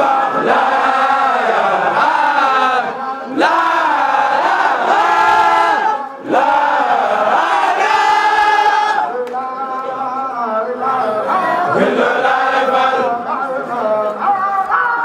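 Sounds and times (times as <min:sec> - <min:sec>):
crowd chanting in unison: 0:00.0 - 0:15.0.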